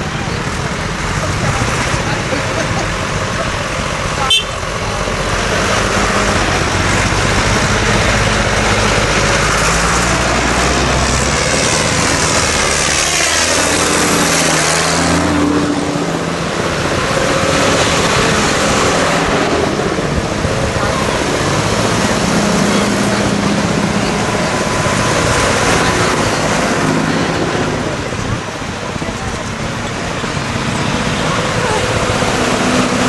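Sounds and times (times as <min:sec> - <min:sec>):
tractor engines running: 0:00.0 - 0:33.0.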